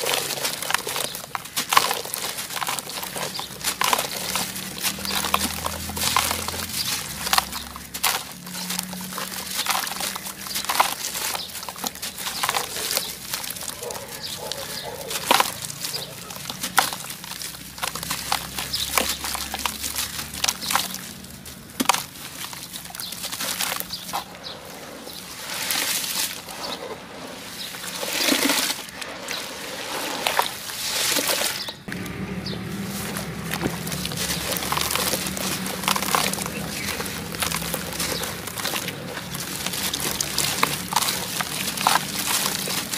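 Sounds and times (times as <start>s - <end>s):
hands crushing dry clumps: 0.0s - 42.9s.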